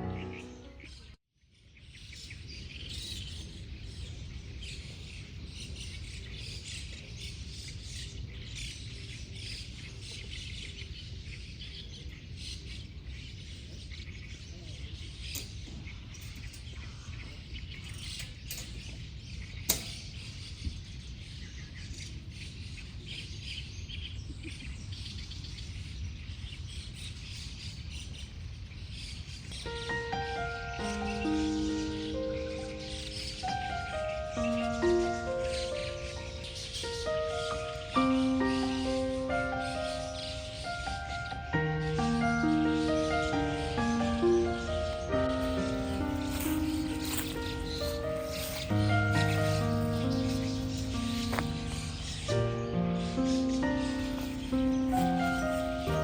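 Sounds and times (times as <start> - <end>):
birds chirping: 0.0 - 1.2, 2.0 - 26.3, 26.9 - 56.0.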